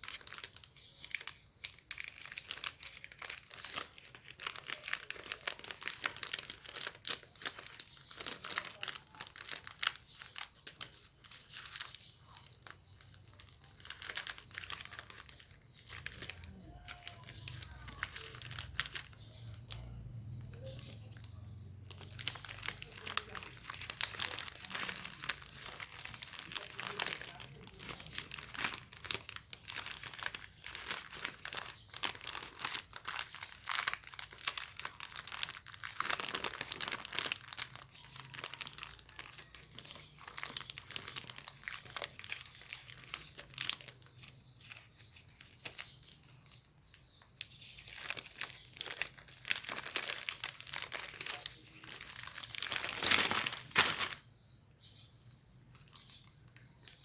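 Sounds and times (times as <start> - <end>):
wrapper tearing: 0.0 - 46.6, 47.4 - 54.2
chocolate wrappers crinkling: 0.0 - 54.3, 55.6 - 57.0.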